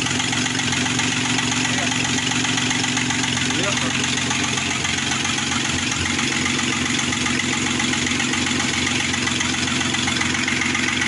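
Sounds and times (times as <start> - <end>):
car engine idling: 0.0 - 11.0
engine knock: 0.0 - 11.0.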